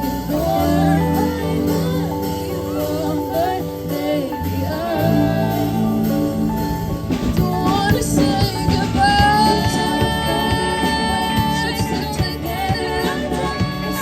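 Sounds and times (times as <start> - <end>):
band playing: 0.0 - 14.0
lead singer singing: 0.0 - 14.0.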